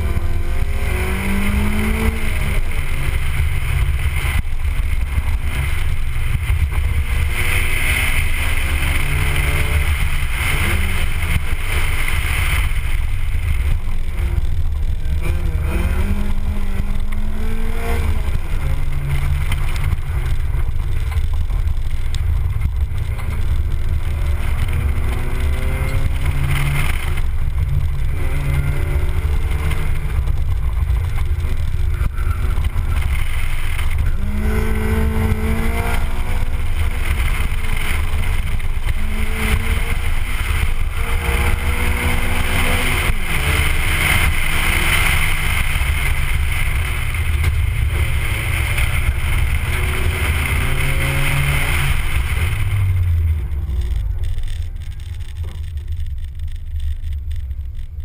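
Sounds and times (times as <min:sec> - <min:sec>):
car engine revving: 0:00.0 - 0:58.0
wind rumble on microphone: 0:00.0 - 0:58.0.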